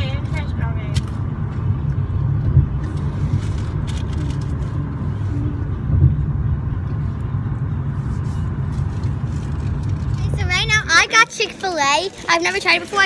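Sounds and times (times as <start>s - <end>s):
car interior road and engine noise: 0.0s - 13.0s.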